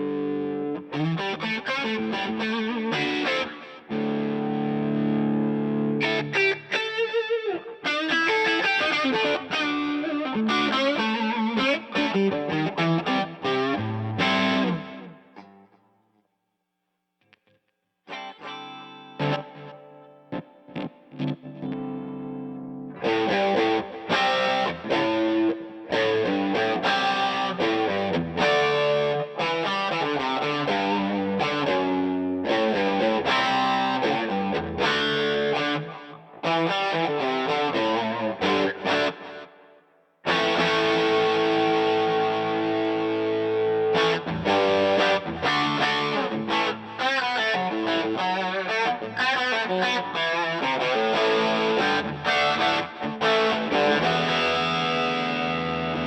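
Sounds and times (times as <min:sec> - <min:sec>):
electric guitar chords: 0:00.0 - 0:15.8, 0:18.1 - 0:56.0.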